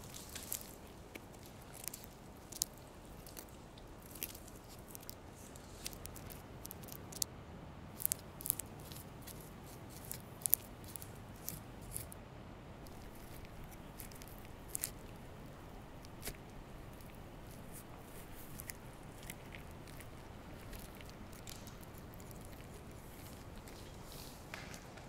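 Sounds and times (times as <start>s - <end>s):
quiet hiss: 0.0s - 25.0s.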